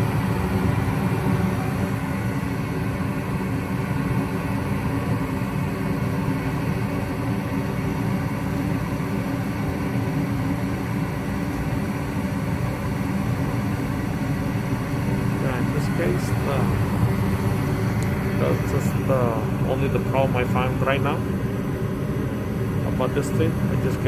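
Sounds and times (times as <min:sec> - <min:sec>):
furnace motor hum: 0:00.0 - 0:24.0
gas furnace rumbling: 0:00.0 - 0:24.0.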